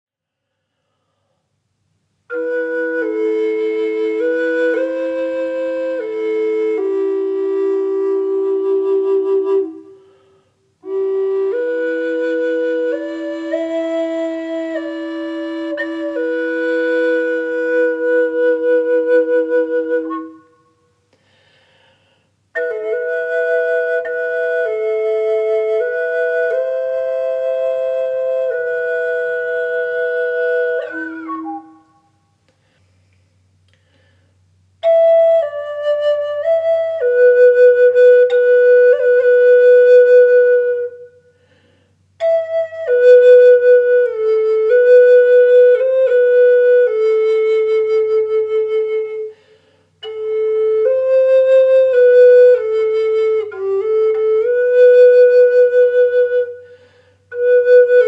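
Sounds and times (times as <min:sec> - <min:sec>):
flute playing slow melody: 0:02.3 - 0:21.0, 0:22.5 - 0:32.4, 0:34.8 - 0:58.0.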